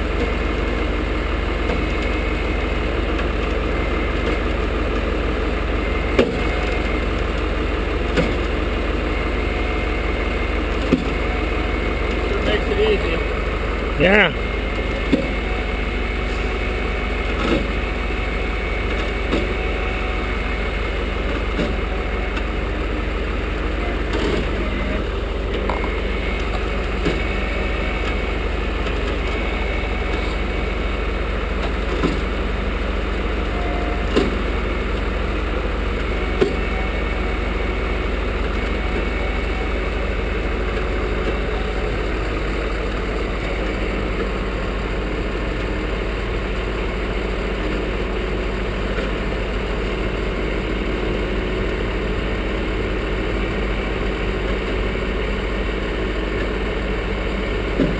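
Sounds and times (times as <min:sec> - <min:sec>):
vehicle engine idling: 0:00.0 - 0:57.9.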